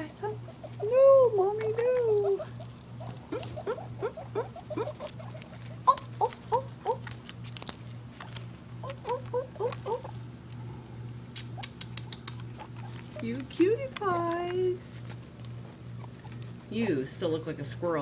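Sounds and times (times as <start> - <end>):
guinea pigs squeaking: 0.0 - 10.6, 11.2 - 18.0
rustling in wood shavings: 0.0 - 11.3, 12.3 - 18.0.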